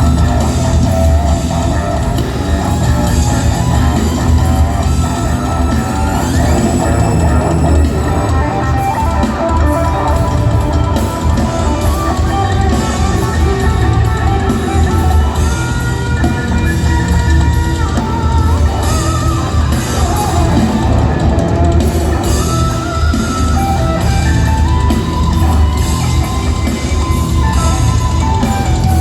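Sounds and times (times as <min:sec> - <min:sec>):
electric guitar: 0:00.0 - 0:29.0
live rock band playing: 0:00.0 - 0:29.0.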